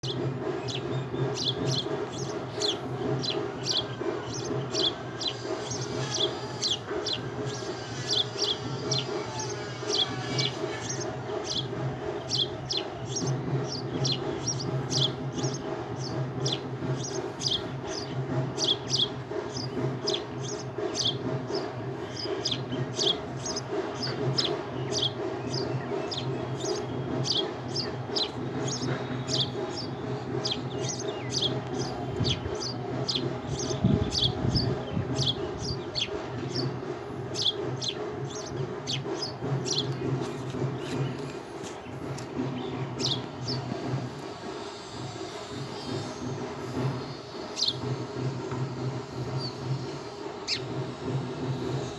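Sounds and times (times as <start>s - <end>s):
bird chirping: 0.0s - 51.9s.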